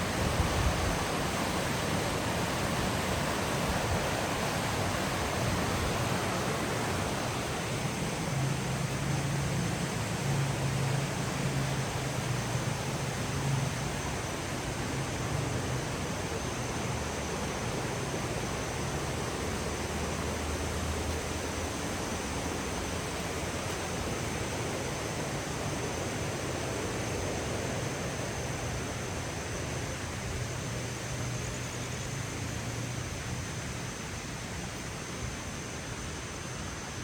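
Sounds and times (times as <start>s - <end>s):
light rain hiss: 0.0s - 37.0s.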